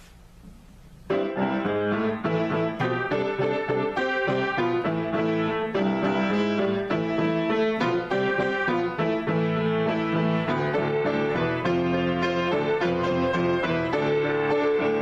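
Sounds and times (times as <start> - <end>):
piano improvisation: 0.0 - 15.0.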